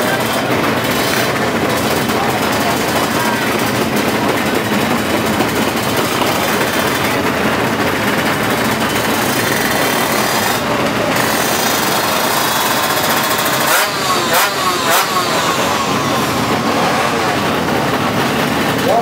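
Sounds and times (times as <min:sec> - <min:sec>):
motorcycle engines revving high: 0:00.0 - 0:19.0.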